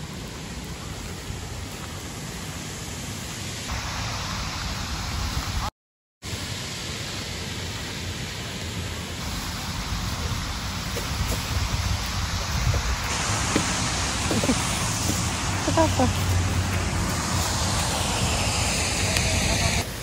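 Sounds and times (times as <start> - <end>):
steady outdoor rushing noise: 0.0 - 5.7, 6.3 - 20.0.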